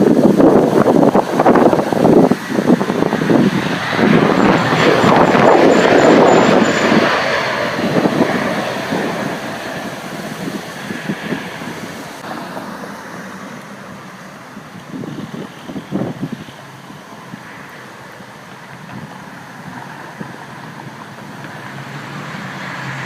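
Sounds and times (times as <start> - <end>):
jet engine noise: 0.0 - 23.0
wind buffeting microphone: 0.0 - 23.0.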